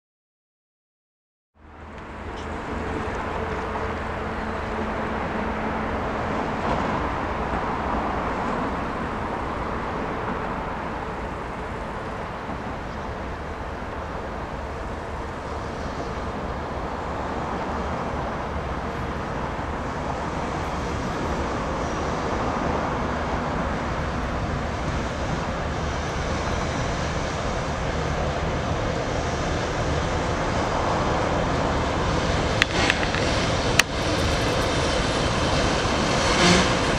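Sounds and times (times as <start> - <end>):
diesel locomotive engine running: 1.6 - 36.9.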